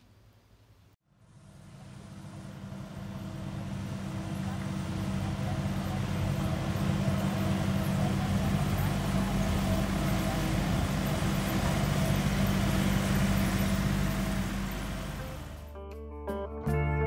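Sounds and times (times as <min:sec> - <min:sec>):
engine droning steadily: 0:01.1 - 0:15.8.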